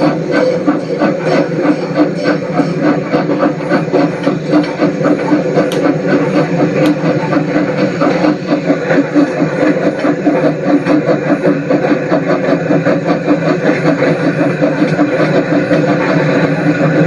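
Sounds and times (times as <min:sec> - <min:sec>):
steam locomotive chugging: 0:00.0 - 0:17.0.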